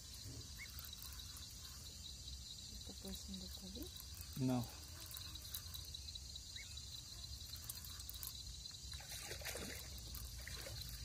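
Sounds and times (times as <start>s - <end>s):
crickets chirring: 0.0s - 11.0s
faint water sounds: 0.0s - 11.0s.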